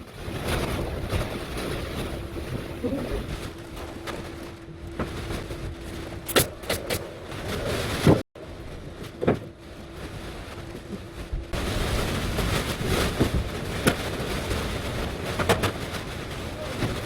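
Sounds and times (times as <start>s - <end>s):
work site background noise: 0.0s - 17.0s.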